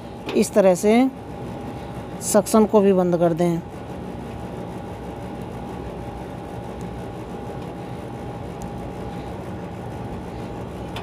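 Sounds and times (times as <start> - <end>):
mechanical drone with whine: 0.0 - 11.0.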